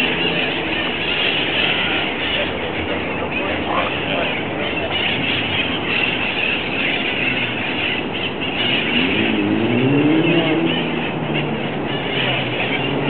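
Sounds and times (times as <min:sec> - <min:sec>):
street traffic: 0:00.0 - 0:13.0
vehicle engine accelerating: 0:00.0 - 0:13.0.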